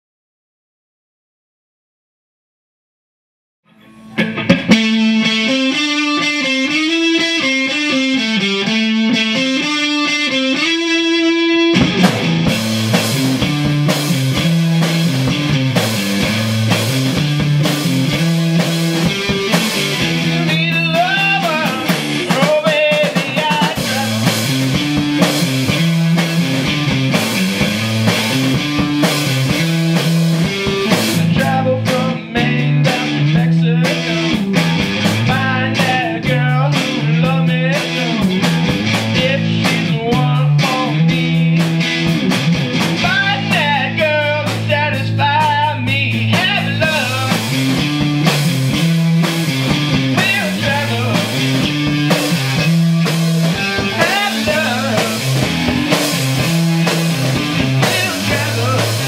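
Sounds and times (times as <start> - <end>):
electric guitar riff: 3.7 - 59.0
drum kit: 3.8 - 59.0.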